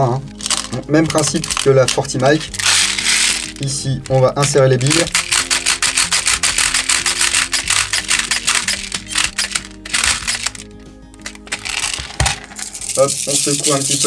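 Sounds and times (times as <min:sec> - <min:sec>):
background music held notes: 0:00.0 - 0:14.0
plastic bbs clicking: 0:00.2 - 0:14.0.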